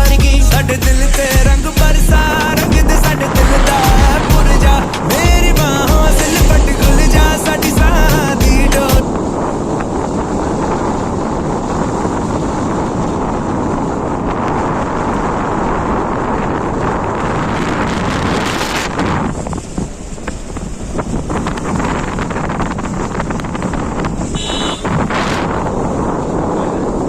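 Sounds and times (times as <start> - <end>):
moving vehicle rumble: 0.0 - 27.0
wind buffeting microphone: 0.2 - 27.0.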